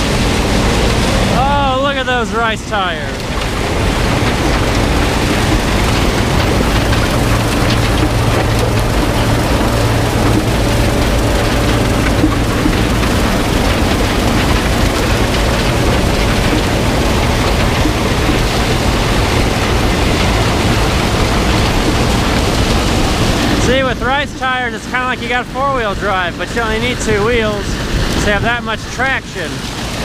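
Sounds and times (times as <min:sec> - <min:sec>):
combine harvester machinery rush: 0:00.0 - 0:30.0
low engine hum: 0:00.0 - 0:30.0.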